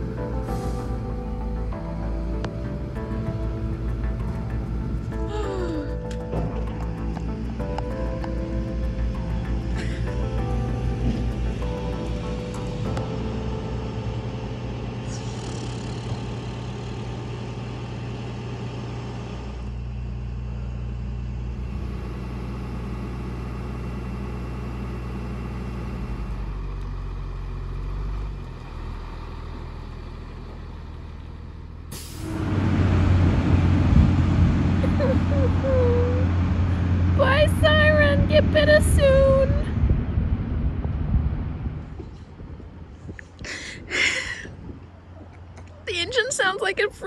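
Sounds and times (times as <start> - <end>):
loud truck engine rumble: 0.0 - 47.0
truck engine humming: 0.0 - 47.0.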